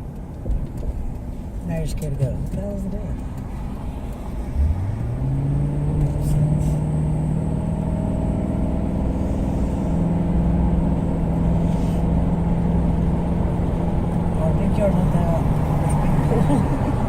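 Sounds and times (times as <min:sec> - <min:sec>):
vehicle engine accelerating: 0:03.2 - 0:17.0.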